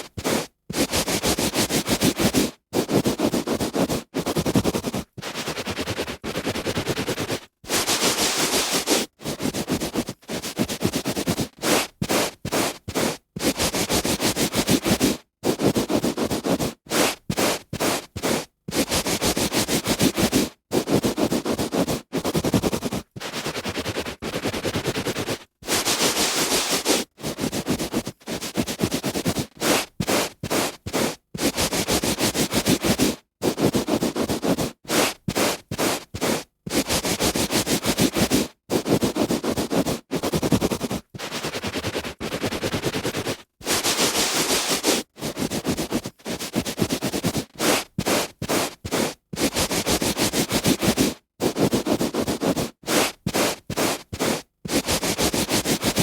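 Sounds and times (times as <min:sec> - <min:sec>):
hand rubbing on carpet: 0:00.0 - 0:56.0.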